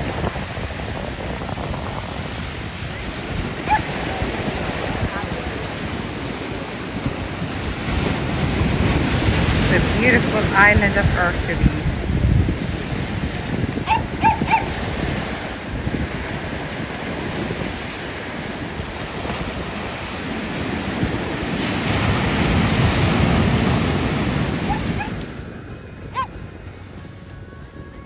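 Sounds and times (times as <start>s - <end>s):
sea surf washing onto beach: 0.0s - 28.0s
wind buffeting microphone: 0.0s - 28.0s.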